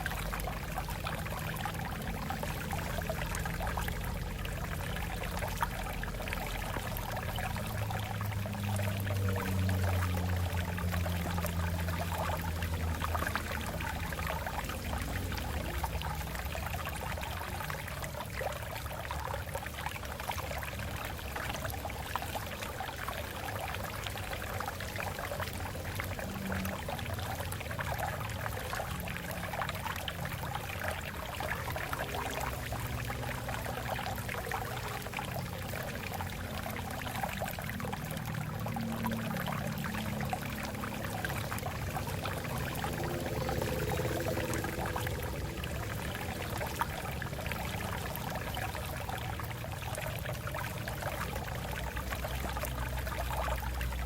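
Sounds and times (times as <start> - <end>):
water splashing over rocks: 0.0 - 54.0.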